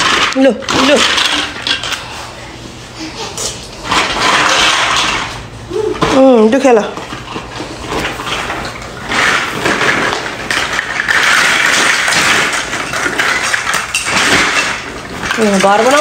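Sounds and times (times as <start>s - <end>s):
plastic blocks rattling and clattering: 0.0s - 2.2s, 3.1s - 5.4s, 6.0s - 16.0s.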